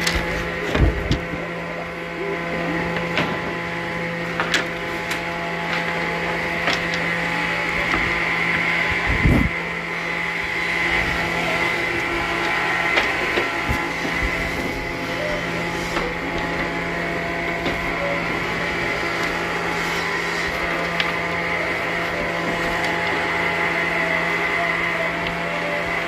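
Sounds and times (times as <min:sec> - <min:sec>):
circular saw humming: 0:00.0 - 0:26.0.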